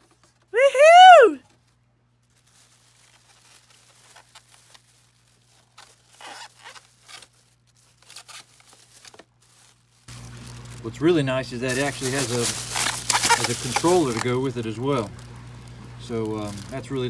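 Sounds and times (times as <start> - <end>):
plastic bags crinkling: 1.5 - 17.0.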